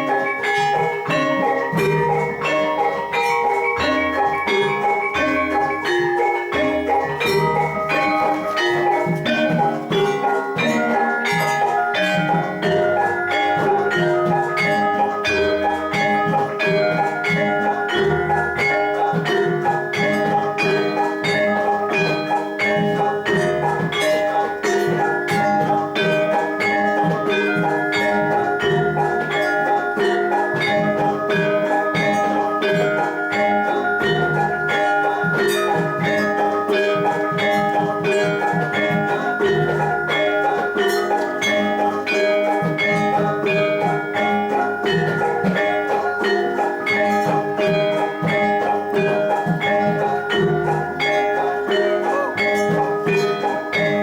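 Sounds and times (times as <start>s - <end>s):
gamelan music: 0.0s - 54.0s
ringing metal mallet instruments: 0.0s - 54.0s.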